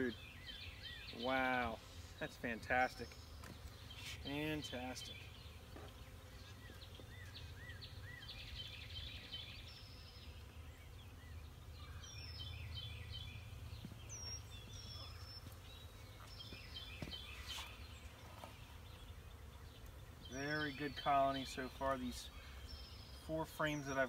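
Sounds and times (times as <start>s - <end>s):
birds chirping and singing: 0.0s - 24.0s.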